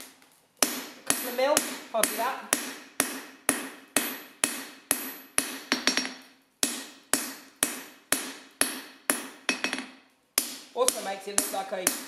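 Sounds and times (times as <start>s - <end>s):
hammer striking steel on anvil: 0.6s - 12.0s.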